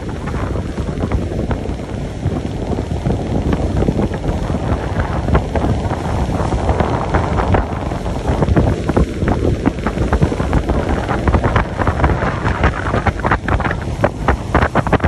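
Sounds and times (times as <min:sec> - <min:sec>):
boat and water rumble: 0:00.0 - 0:15.0
wind buffeting microphone: 0:00.0 - 0:15.0.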